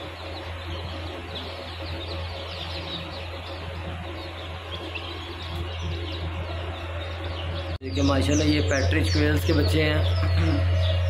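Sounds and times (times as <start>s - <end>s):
chicks peeping: 0.0s - 11.0s
steady low hum: 0.0s - 11.0s.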